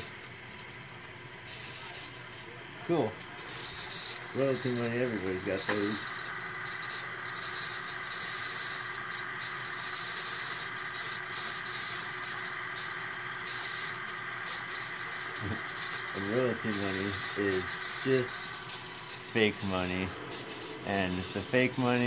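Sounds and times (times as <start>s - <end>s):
small electric machine humming: 0.0s - 22.0s.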